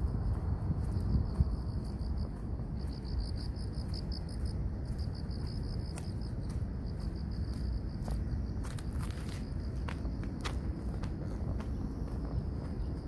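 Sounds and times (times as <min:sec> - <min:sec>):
cricket chirping trill: 0:00.0 - 0:13.0.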